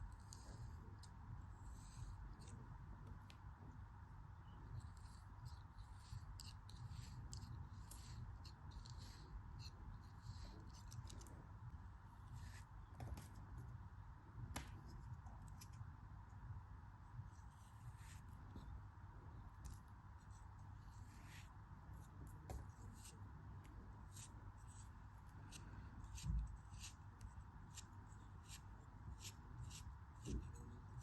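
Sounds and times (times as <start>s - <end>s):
faint hum: 0.0s - 31.0s.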